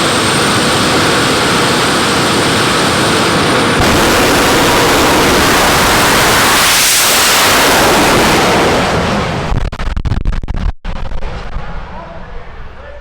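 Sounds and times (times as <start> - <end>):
jet engine roaring: 0.0 - 12.8.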